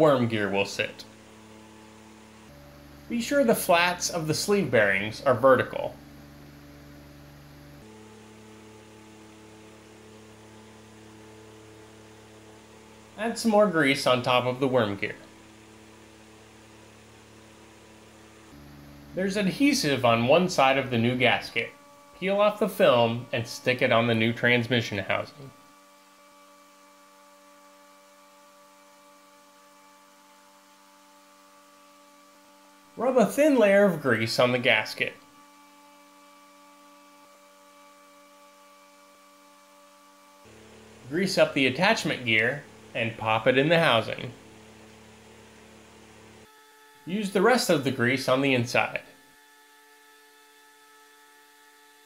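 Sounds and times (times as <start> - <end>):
faint electrical hum: 0.0 - 52.0.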